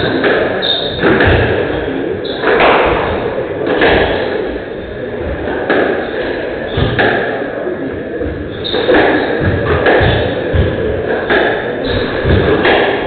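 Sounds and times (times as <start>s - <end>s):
squash ball hitting rackets and walls: 0.0s - 4.3s, 5.4s - 6.1s, 6.7s - 7.4s, 8.2s - 13.0s.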